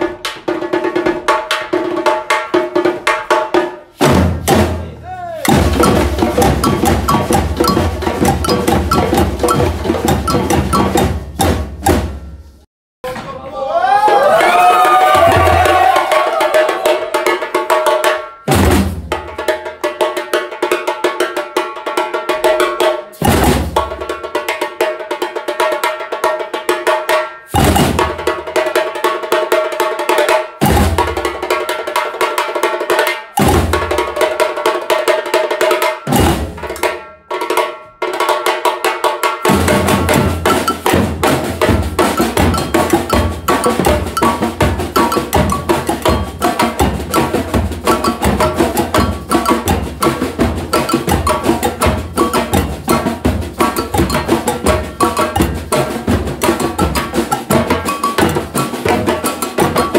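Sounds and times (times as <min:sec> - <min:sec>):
snare drums fast rhythm: 0:00.0 - 0:12.4, 0:14.8 - 0:59.9.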